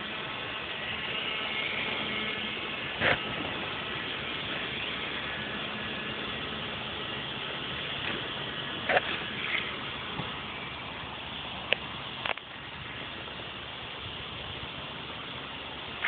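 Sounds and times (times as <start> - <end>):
small motor whirring: 0.0 - 16.0.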